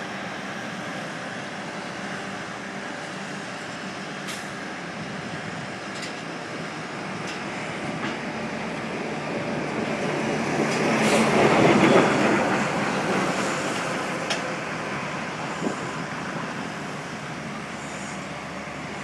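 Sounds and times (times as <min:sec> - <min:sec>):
diesel trucks rumbling: 0:00.0 - 0:19.0.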